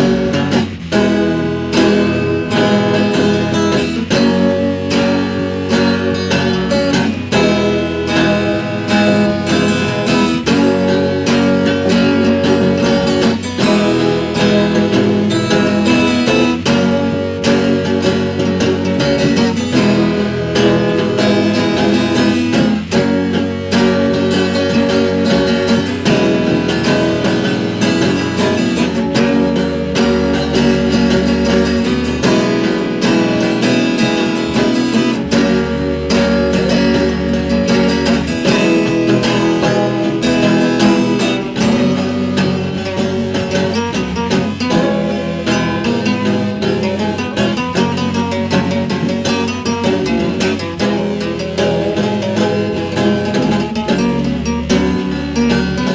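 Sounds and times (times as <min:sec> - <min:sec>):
acoustic guitar strumming: 0:00.0 - 0:55.9
low bass notes: 0:00.0 - 0:55.9.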